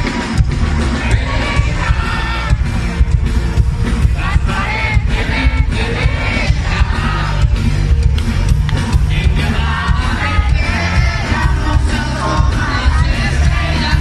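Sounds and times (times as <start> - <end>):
crowd yelling: 0.0 - 14.0
live pop band with singer: 0.0 - 14.0.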